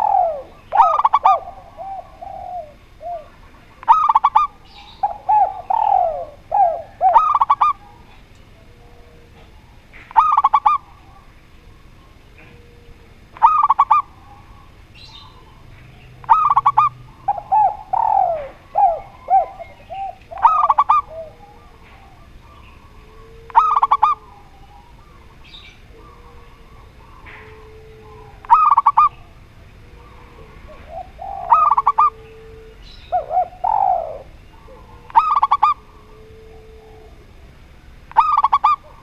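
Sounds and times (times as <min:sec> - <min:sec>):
doves cooing: 0:00.0 - 0:39.0
falling dove coos: 0:00.0 - 0:39.0.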